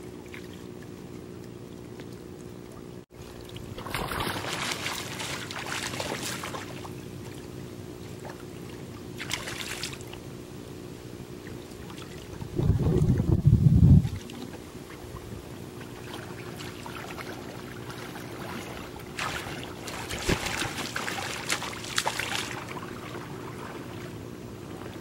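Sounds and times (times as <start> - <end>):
river water splashing and trickling: 0.0 - 10.2, 11.4 - 12.4, 14.2 - 25.0
steady low hum: 0.0 - 25.0.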